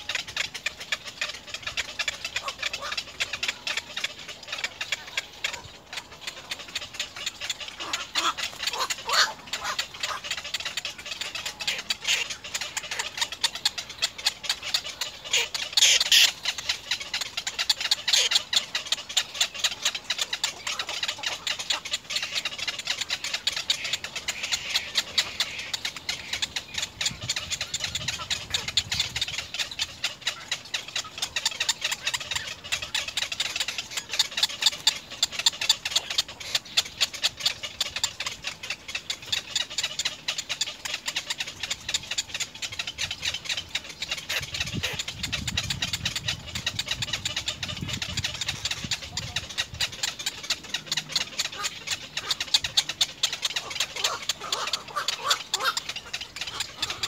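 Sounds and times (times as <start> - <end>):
bird chicks ticking calls: 0.0 - 57.0.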